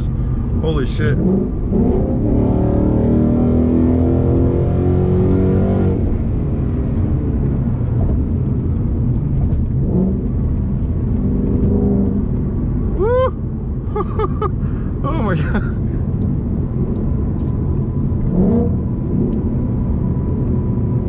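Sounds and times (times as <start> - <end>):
car engine accelerating hard: 0.0 - 13.2, 13.9 - 21.0.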